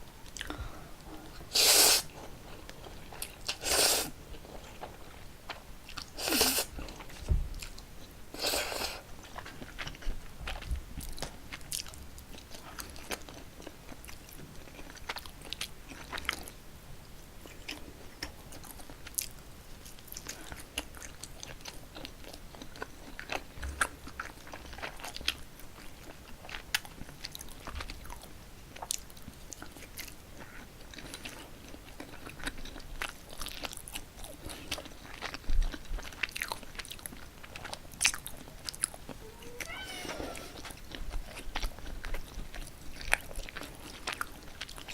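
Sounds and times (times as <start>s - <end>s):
close-miked chewing noodles: 0.1s - 44.9s.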